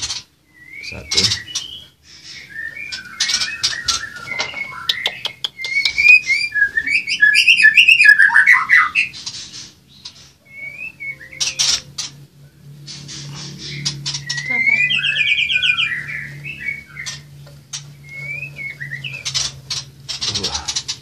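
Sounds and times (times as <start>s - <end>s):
birds whistling: 0.0s - 21.0s.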